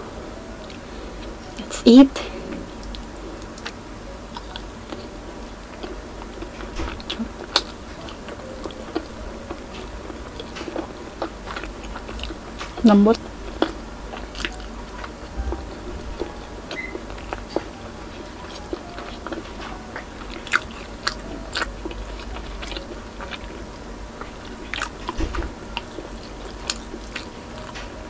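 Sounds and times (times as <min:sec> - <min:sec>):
wet chewing: 0:02.7 - 0:27.9.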